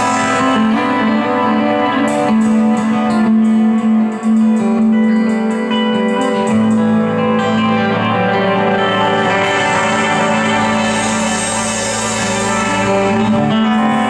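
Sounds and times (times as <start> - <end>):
electric blues guitar: 0.0 - 14.0.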